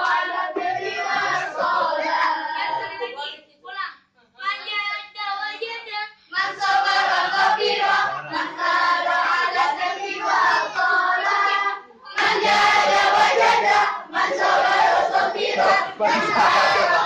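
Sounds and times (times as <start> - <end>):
girls singing in unison: 0.0 - 3.1, 6.4 - 17.0.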